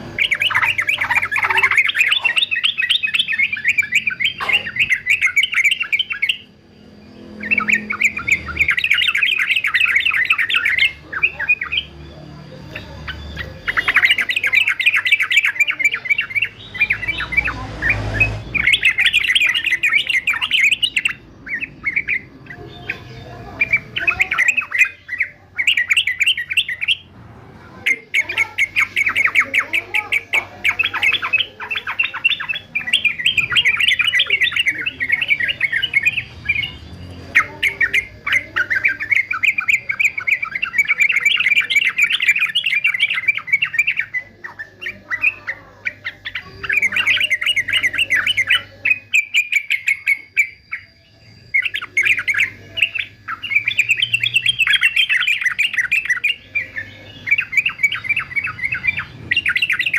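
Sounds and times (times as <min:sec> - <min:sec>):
bird chattering squawky song: 0:00.0 - 0:59.9.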